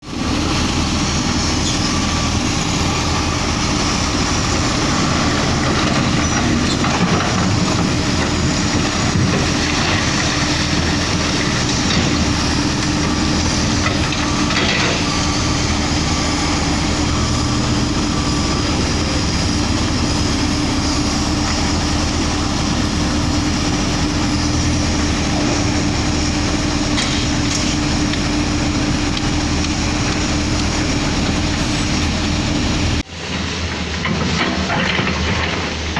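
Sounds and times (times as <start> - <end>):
diesel truck engine rumbling: 0.0 - 35.9.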